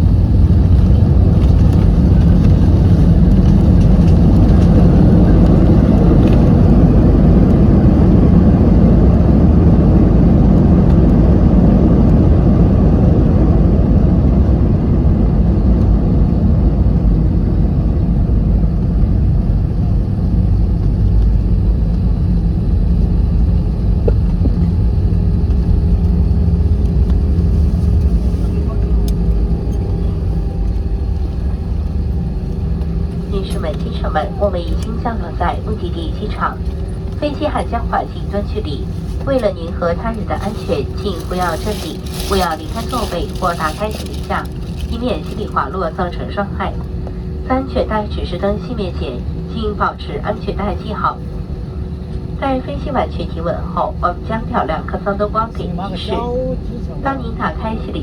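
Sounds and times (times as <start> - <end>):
airliner engines rumbling: 0.0 - 58.0.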